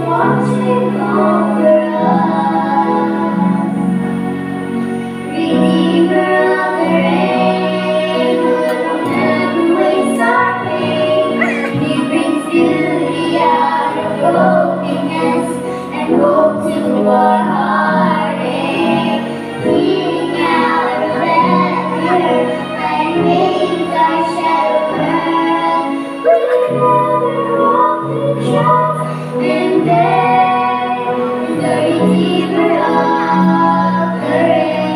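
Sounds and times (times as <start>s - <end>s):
young female voices singing: 0.0s - 3.9s, 5.3s - 34.9s
sustained instrumental accompaniment: 0.0s - 34.9s.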